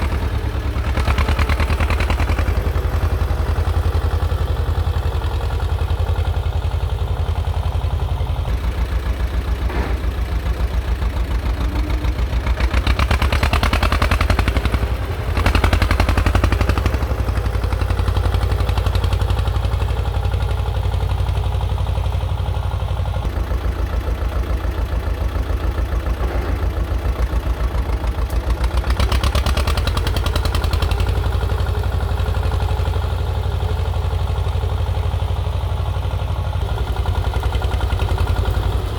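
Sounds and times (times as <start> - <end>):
tractor diesel engine chugging: 0.0 - 38.9.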